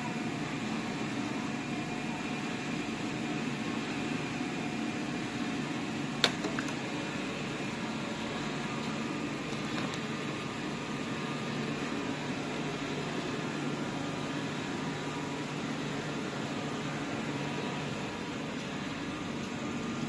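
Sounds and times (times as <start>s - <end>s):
machinery humming: 0.0s - 20.0s.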